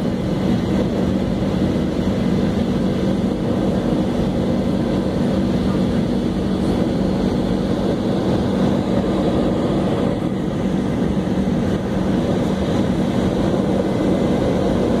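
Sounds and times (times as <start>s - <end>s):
airplane cabin jet drone: 0.0s - 15.0s.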